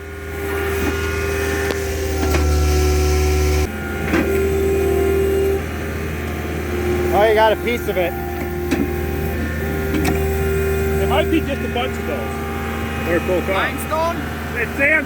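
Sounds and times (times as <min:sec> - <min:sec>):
auger engine running: 0:00.0 - 0:15.0.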